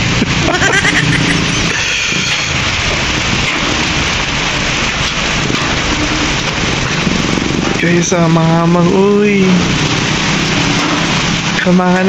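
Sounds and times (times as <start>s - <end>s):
rain falling on wet road: 0.0s - 12.0s.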